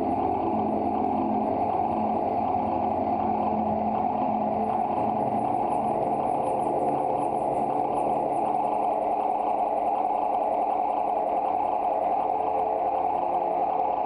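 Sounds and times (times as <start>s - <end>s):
dense midrange drone: 0.0s - 14.0s
high pulsing whine: 0.0s - 14.0s.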